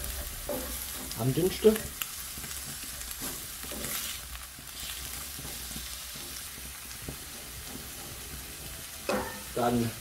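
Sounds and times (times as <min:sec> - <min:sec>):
onions sizzling in a skillet: 0:00.0 - 0:10.0
wooden spatula scraping a pan: 0:00.0 - 0:10.0.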